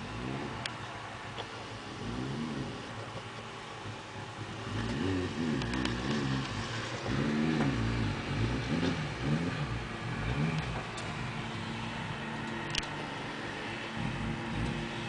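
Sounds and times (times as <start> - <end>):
motorcycle engine revving: 0.0 - 0.9, 1.8 - 3.2, 4.4 - 15.0.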